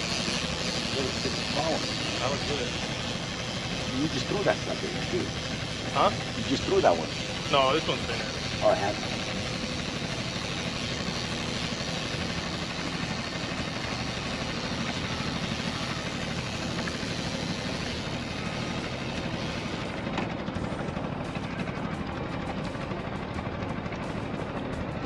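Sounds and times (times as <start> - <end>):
outboard motor droning: 0.0 - 25.0.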